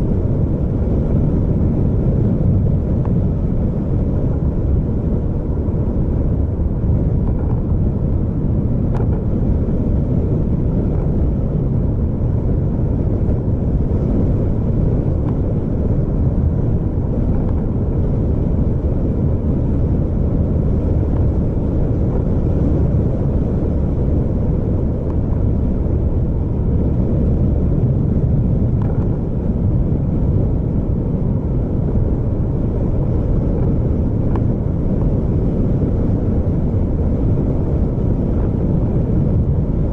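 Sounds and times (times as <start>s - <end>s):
road noise: 0.0s - 39.9s
vehicle engine rumble: 0.0s - 39.9s.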